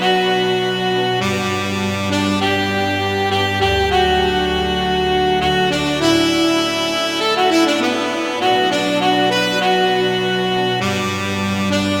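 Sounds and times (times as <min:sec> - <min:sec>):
reedy instrumental chords: 0:00.2 - 0:12.0.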